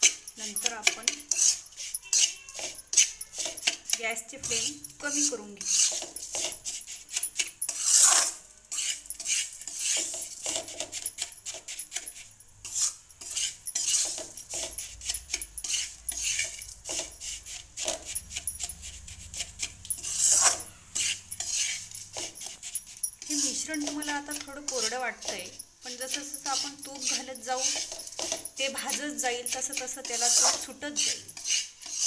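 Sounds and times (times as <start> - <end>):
metal spatula scraping a pan: 0.0 - 32.0.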